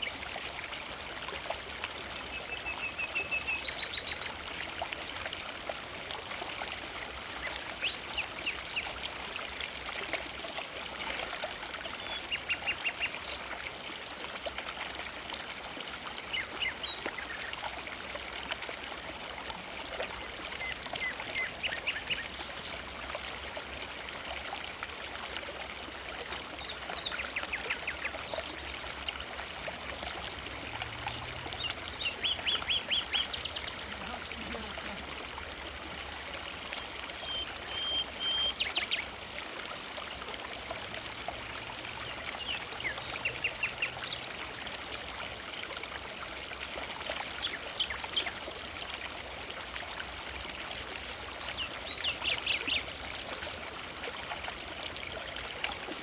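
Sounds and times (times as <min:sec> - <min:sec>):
river running: 0:00.0 - 0:56.0.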